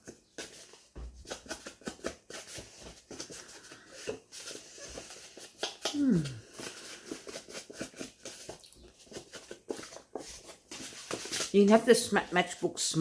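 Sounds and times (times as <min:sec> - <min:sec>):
paper rustling: 0:00.0 - 0:12.7.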